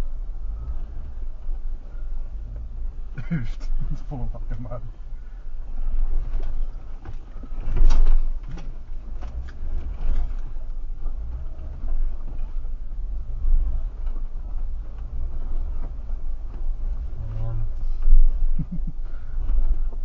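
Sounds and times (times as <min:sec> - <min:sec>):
vehicle engine running low: 0:00.0 - 0:20.0
vehicle knocks and rattles: 0:00.0 - 0:20.0.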